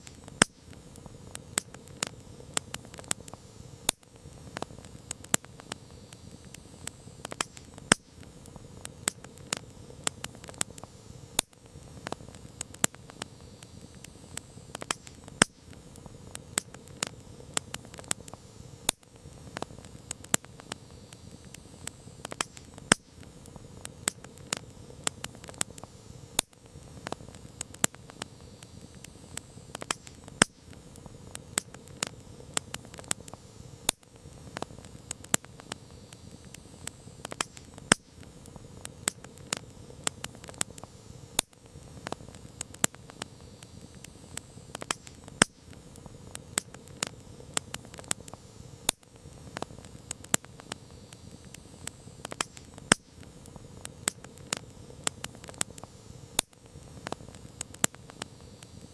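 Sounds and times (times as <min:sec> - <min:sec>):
campfire pops and snaps: 0:00.0 - 0:58.9
low rush of burning: 0:00.0 - 0:58.9.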